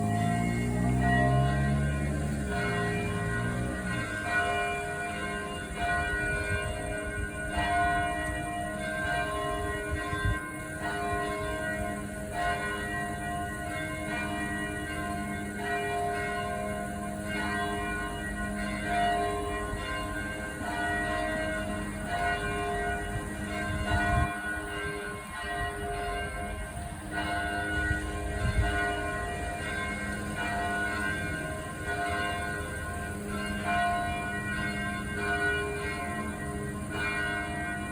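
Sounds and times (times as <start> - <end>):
church bells ringing: 0.0 - 37.9.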